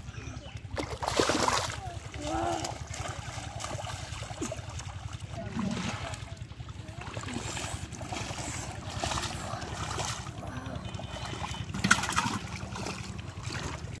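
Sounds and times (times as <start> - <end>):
splashing in shallow water: 0.0 - 14.0.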